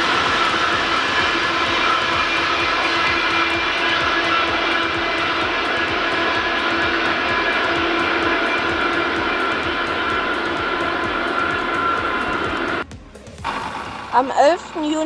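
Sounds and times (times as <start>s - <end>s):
locomotive whining tones: 0.0s - 15.0s
train rolling drone: 0.0s - 15.0s.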